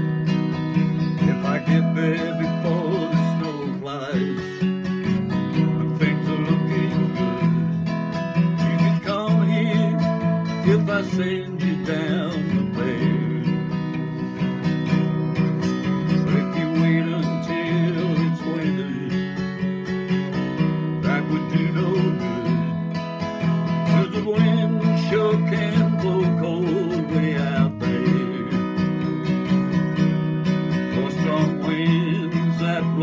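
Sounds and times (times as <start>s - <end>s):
acoustic guitar strumming: 0.0s - 33.0s
man singing: 1.2s - 7.8s, 8.4s - 22.9s, 23.7s - 29.6s, 30.8s - 33.0s.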